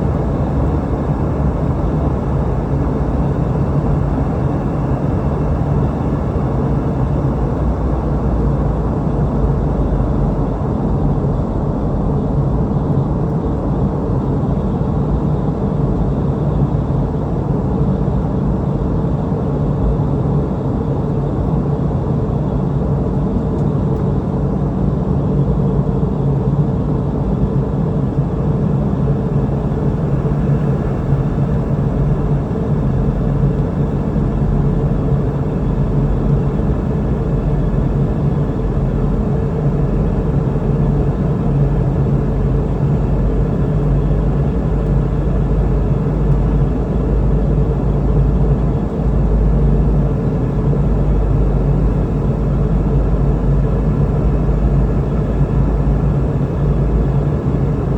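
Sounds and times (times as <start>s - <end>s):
jet engine hum: 0.0s - 57.9s.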